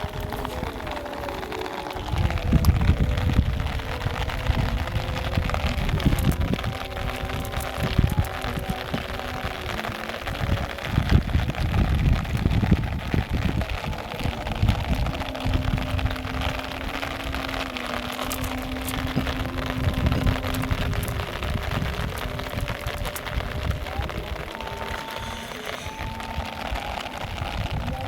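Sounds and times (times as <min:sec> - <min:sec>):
low rumbling surges: 0:00.0 - 0:28.0
steady rain falling: 0:00.0 - 0:28.0.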